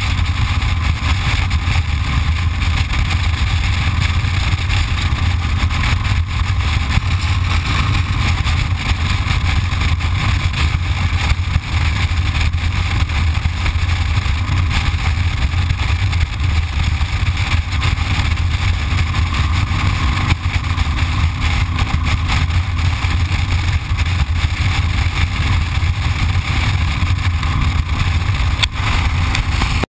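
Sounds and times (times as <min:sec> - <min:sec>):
motorcycle engine cruising: 0:00.0 - 0:29.9
road noise: 0:00.0 - 0:29.9
wind noise: 0:00.0 - 0:29.9.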